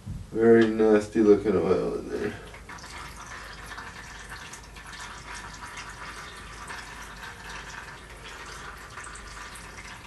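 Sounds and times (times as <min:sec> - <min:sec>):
oil pouring and dripping: 0:01.9 - 0:10.0.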